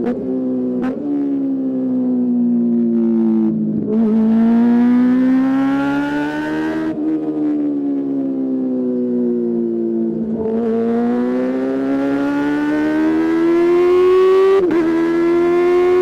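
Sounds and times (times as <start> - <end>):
motorcycle engine revving: 0.0 - 8.8, 9.6 - 16.0.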